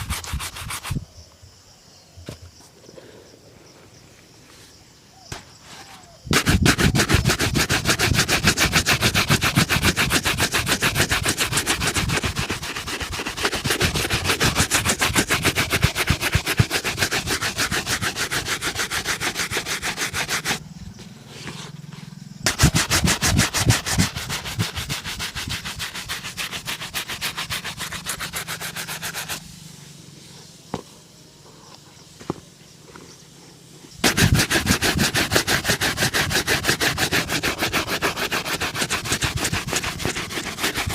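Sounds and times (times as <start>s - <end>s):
shoe buffing rubbing strokes: 0.0s - 1.0s, 5.7s - 40.9s.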